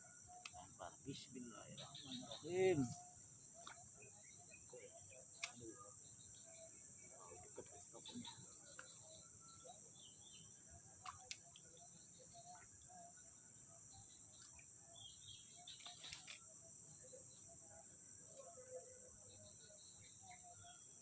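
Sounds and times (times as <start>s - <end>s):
birds chirping: 0.0s - 21.0s
high insect drone: 0.0s - 21.0s.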